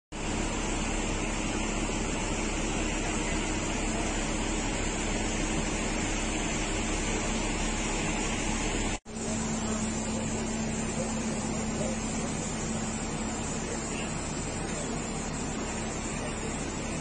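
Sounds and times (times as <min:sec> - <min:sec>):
low machine hum: 0:00.2 - 0:17.0.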